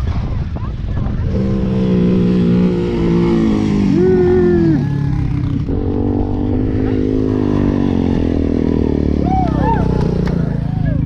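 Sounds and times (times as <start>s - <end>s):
vehicle engine running under load: 0.0s - 11.0s.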